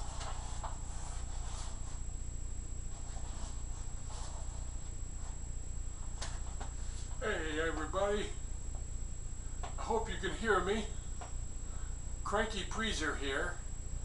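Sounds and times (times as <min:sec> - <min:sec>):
low hum with high whine: 0:00.0 - 0:14.0.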